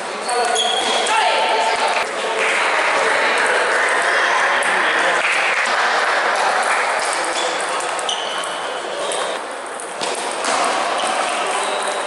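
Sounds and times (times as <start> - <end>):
chatter in sports hall: 0.0 - 12.0.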